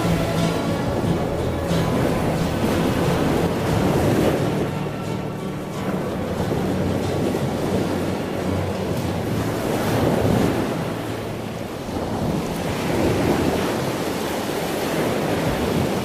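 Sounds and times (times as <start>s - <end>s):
sea waves breaking: 0.0s - 16.0s.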